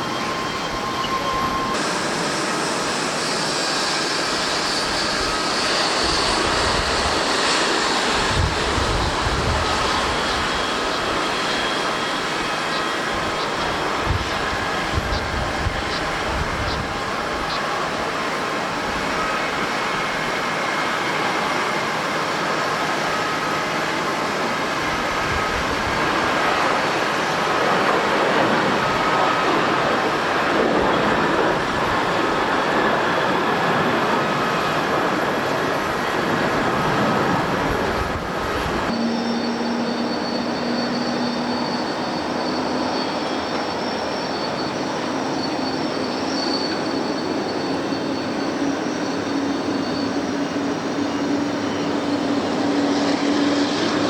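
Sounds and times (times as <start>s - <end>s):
jet engine whine: 0.0s - 54.0s
jet engines roaring: 0.0s - 54.0s.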